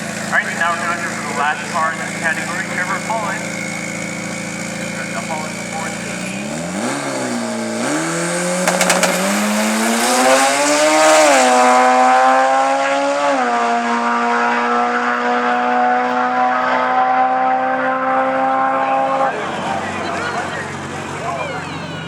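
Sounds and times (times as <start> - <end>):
drag car engine revving: 0.0 - 22.0
engine crackles: 0.0 - 22.0.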